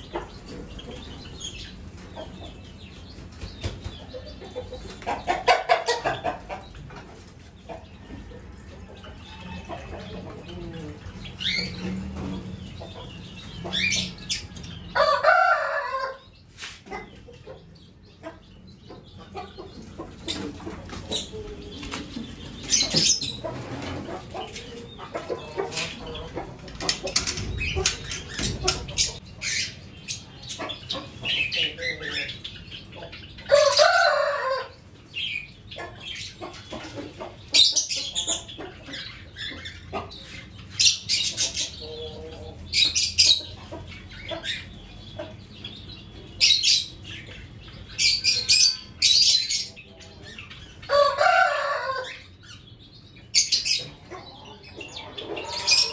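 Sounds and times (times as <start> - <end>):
birds chirping: 0.0 - 55.9
chicken clucking and squawking: 0.0 - 55.9.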